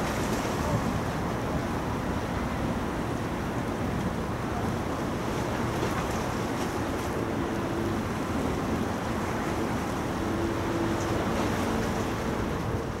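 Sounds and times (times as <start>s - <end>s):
harbour water washing: 0.0s - 13.0s.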